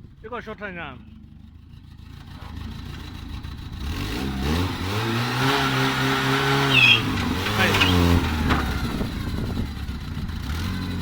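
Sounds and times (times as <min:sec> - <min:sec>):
vehicle engine pulling away: 0:01.0 - 0:11.0.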